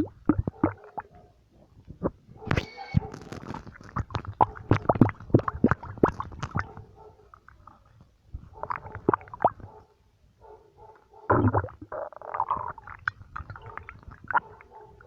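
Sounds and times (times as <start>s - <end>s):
stomach gurgling: 0.0s - 9.9s, 11.3s - 15.0s.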